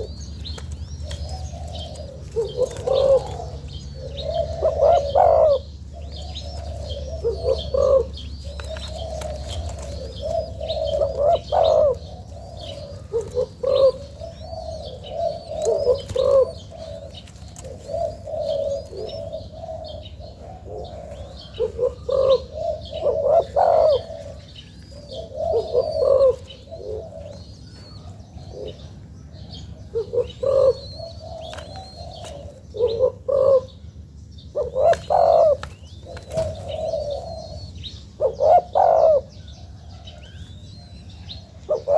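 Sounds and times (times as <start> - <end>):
dove cooing: 0.0 - 41.9
small birds chirping: 0.0 - 41.9.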